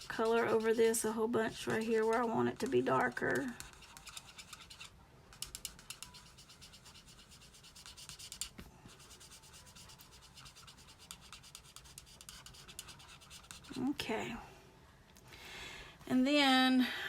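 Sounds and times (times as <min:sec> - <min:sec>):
marker scratching on card: 0:00.0 - 0:13.9.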